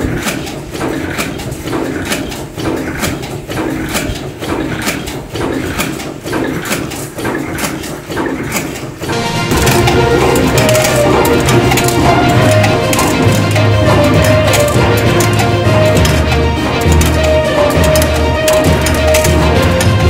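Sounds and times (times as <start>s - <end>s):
factory machinery knocking clatter: 0.0s - 20.0s.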